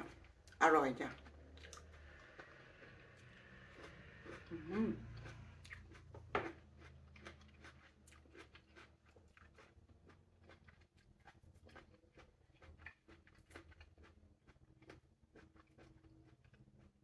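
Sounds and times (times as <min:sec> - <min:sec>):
chewing with wet clicks: 0:00.0 - 0:17.0
low room hum: 0:00.0 - 0:17.0.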